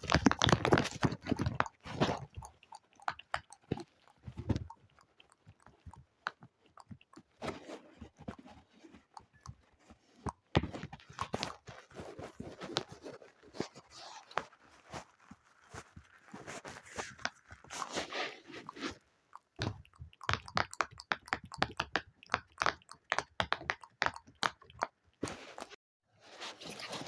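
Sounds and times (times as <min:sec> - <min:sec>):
crackly clicks and pops: 0:00.0 - 0:12.9, 0:15.3 - 0:25.2.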